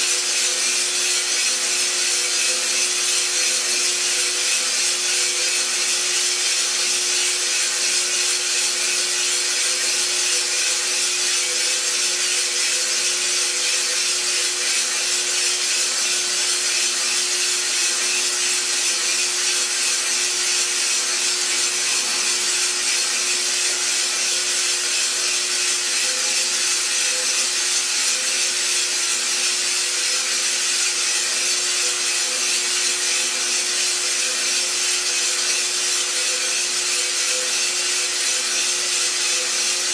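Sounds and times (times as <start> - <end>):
coffee beans tumbling in drum: 0.0 - 39.9
coffee roaster hissing: 0.0 - 39.9.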